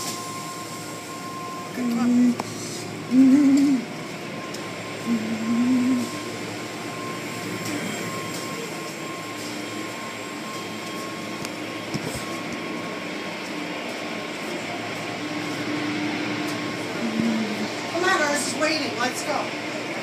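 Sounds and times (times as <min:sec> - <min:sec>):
thin steady machine hum: 0:00.0 - 0:20.0.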